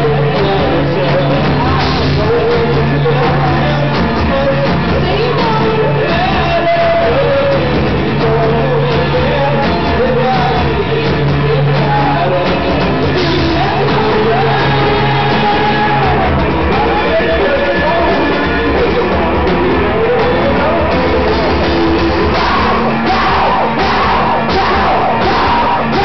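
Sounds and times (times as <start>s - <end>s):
electric guitar: 0.0s - 26.0s
keyboards: 0.0s - 26.0s
person singing: 0.0s - 26.0s.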